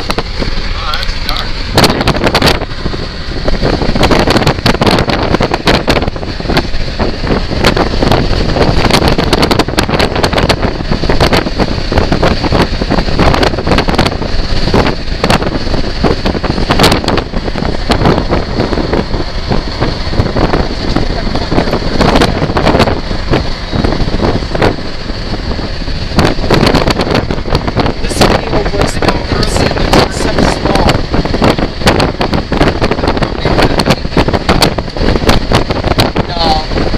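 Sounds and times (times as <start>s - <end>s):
gusty wind buffeting microphone: 0.0s - 36.9s.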